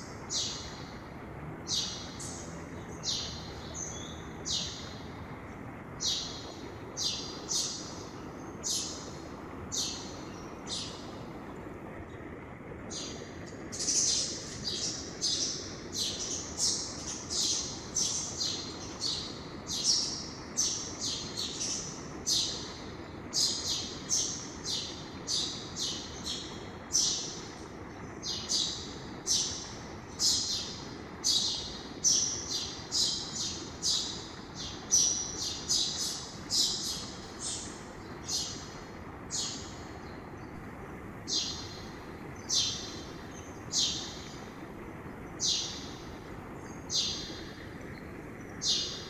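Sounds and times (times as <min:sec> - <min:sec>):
river rushing: 0:00.0 - 0:49.0
songbird chirping: 0:00.0 - 0:49.0.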